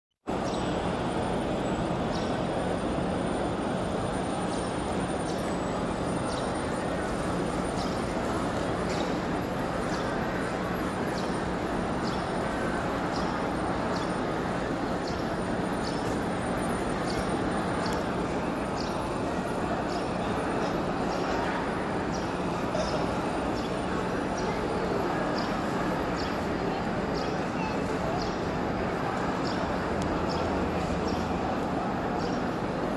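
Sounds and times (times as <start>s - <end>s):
murmur of large crowd: 0.3s - 32.9s.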